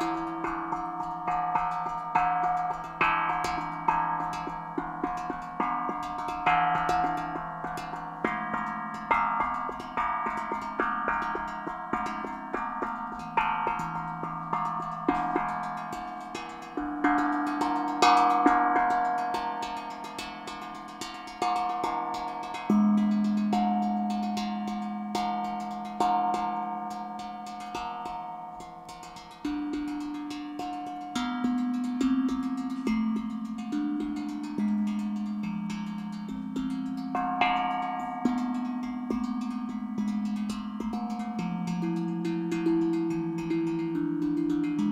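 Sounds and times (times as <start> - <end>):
steel tongue drum melody: 0.0 - 44.9.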